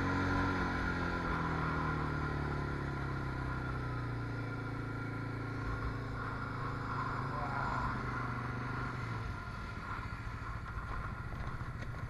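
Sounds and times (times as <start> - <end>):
atv engine humming: 0.0 - 12.0.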